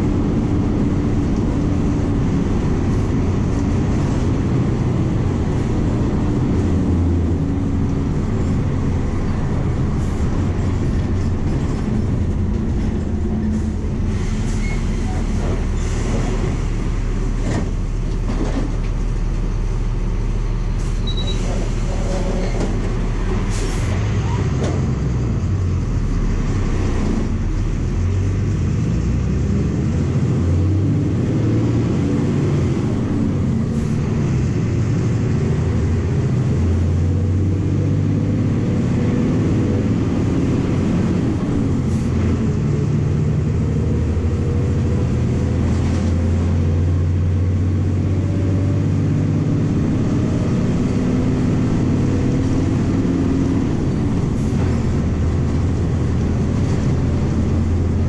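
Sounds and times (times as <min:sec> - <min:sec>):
bus diesel engine from inside: 0:00.0 - 0:58.0.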